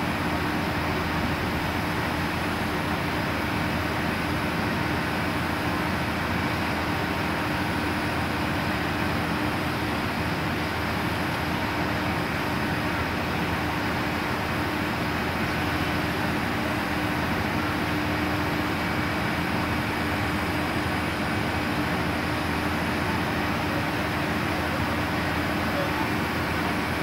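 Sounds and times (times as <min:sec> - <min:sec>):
fire truck engine droning: 0:00.0 - 0:27.0.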